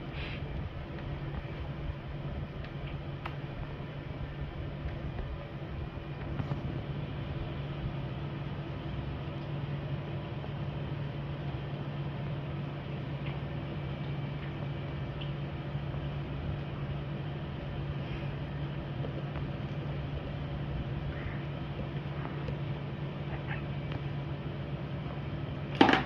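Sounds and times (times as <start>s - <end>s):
air compressor humming: 0.0s - 26.0s.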